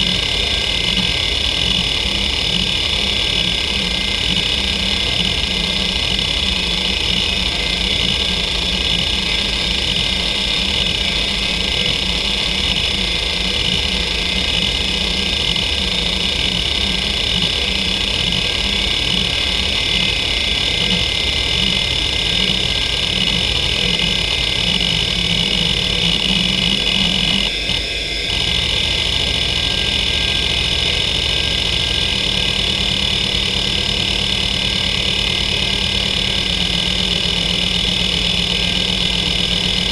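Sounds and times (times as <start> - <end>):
hard drive head chattering: 0.0 - 39.9
hard drive spindle whine: 0.0 - 39.9.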